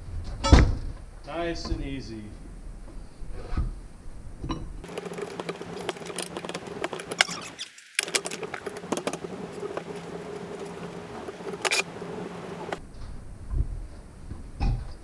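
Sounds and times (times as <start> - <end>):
steady low hum: 1.0 - 15.0.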